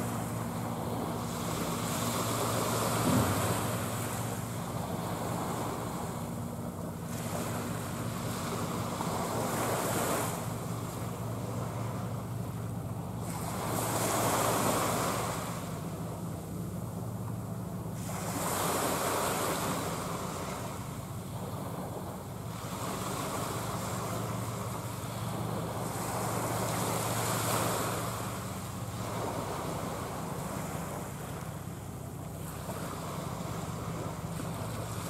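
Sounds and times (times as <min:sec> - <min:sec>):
distant ship engines droning: 0:00.0 - 0:35.0
small waves washing: 0:00.0 - 0:35.0.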